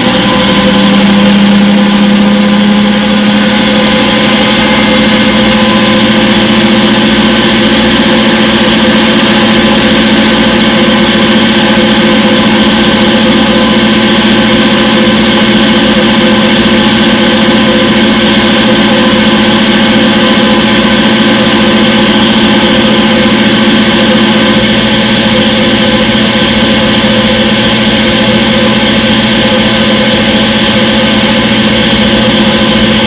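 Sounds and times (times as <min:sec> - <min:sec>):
washing machine humming: 0:00.0 - 0:33.0.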